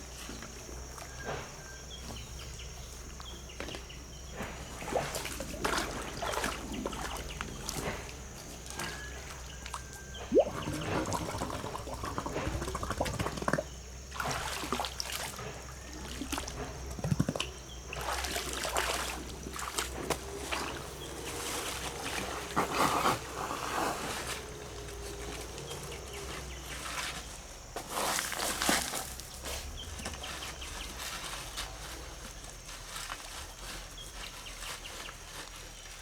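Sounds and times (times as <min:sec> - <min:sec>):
water splashing and trickling: 0:03.6 - 0:34.4.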